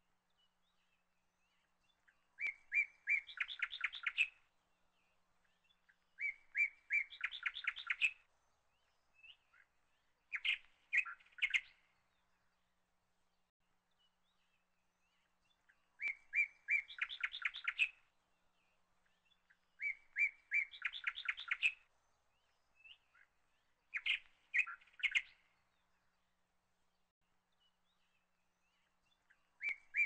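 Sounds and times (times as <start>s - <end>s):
small bird singing: 0.2s - 30.0s.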